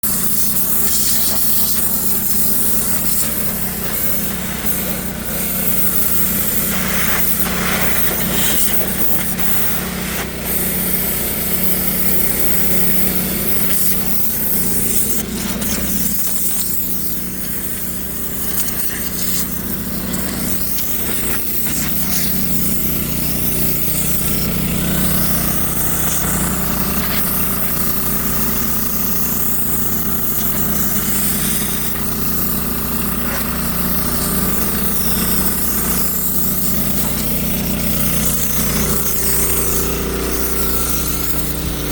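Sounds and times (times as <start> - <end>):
pressure washer hum: 0.0 - 41.9
spray hissing against metal: 0.0 - 41.9.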